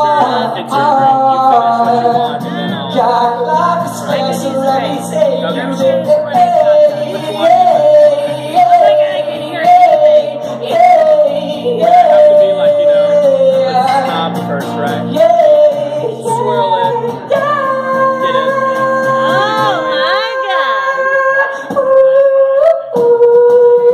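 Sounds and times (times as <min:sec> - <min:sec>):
man singing wordless high notes: 0:00.0 - 0:23.9
strummed acoustic guitar: 0:00.0 - 0:23.9.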